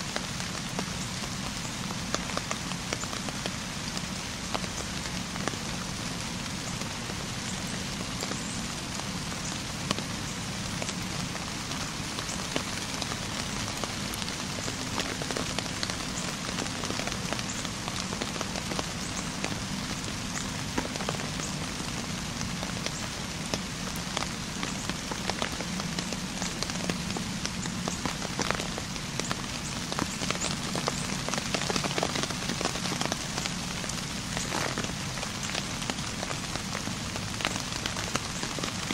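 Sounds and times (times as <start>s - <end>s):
sharp raindrop ticks: 0.0s - 38.9s
steady rain hissing: 0.0s - 38.9s.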